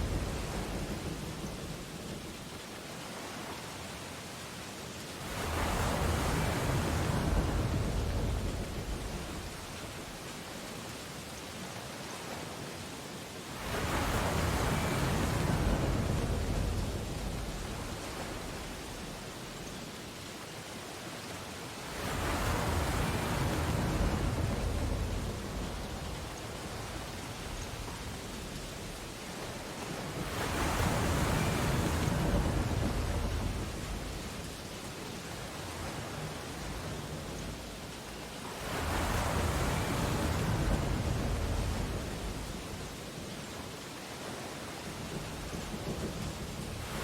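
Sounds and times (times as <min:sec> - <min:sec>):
ocean waves breaking on beach: 0:00.0 - 0:47.0
surf washing: 0:00.0 - 0:47.0.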